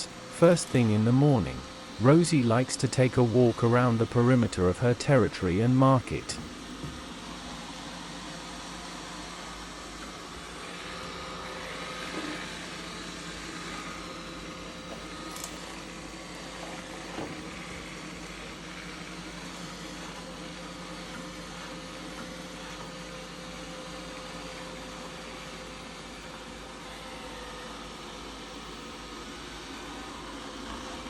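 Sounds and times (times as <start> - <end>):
robot vacuum whirring: 0.0 - 31.0.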